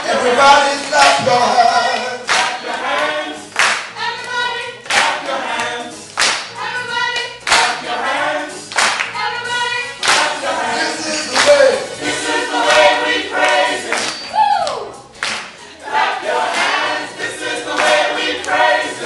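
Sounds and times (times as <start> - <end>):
gospel choir singing: 0.0 - 19.0
hand clapping on the beat: 0.7 - 19.0.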